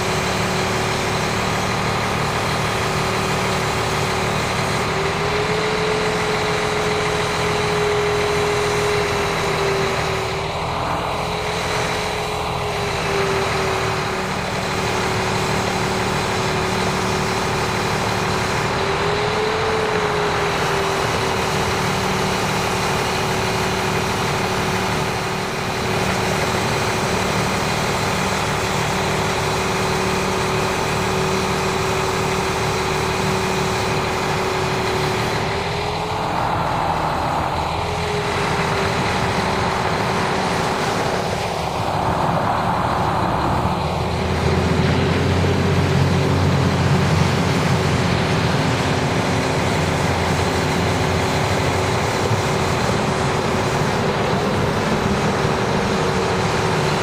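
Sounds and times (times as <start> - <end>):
hydraulic whine: 0.0 - 57.0
truck engine running: 0.0 - 57.0.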